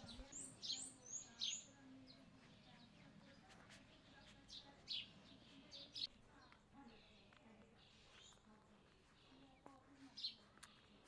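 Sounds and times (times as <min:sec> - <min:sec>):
faint birdsong chirps: 0:00.0 - 0:11.0.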